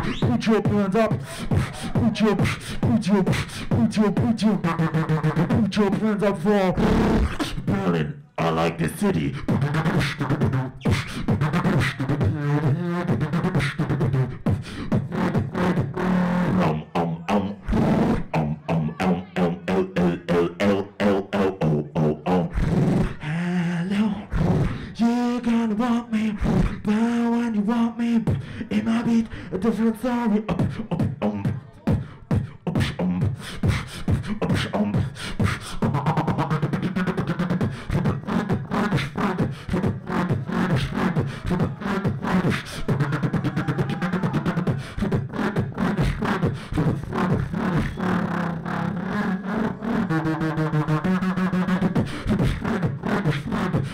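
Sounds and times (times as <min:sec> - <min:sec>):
person beatboxing: 0:00.0 - 0:53.9.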